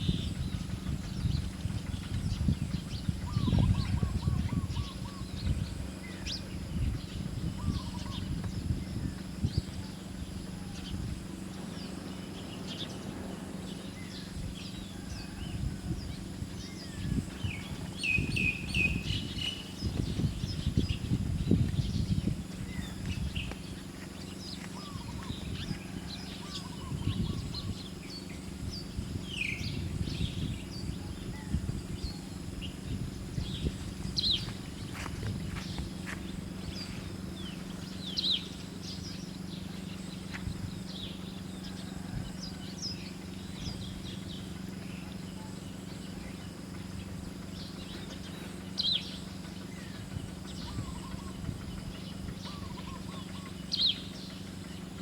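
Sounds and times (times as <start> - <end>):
steady low hum: 0.0 - 55.0
wild birds chirping: 0.0 - 55.0.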